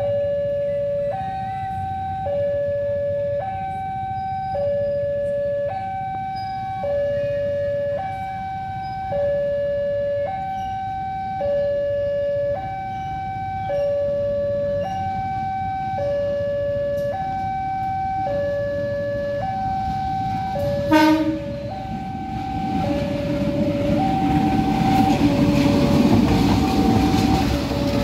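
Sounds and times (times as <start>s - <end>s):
level-crossing two-tone alarm: 0.0s - 26.0s, 26.6s - 27.7s.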